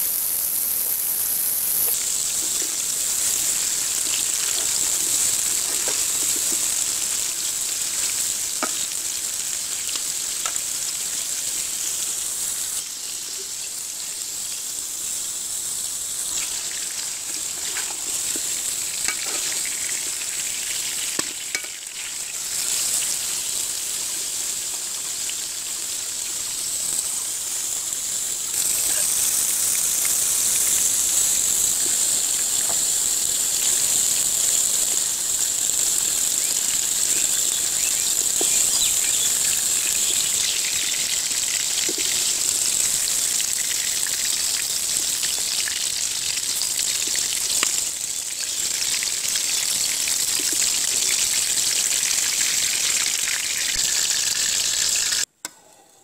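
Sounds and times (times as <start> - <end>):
vegetables sizzling in hot oil: 0.0 - 55.3.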